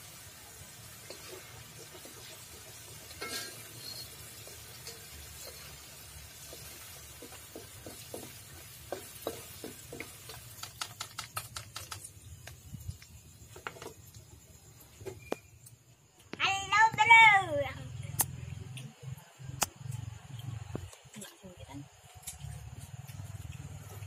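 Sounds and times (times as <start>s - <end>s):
oil sizzling in a wok: 0.0s - 19.1s, 19.8s - 24.0s.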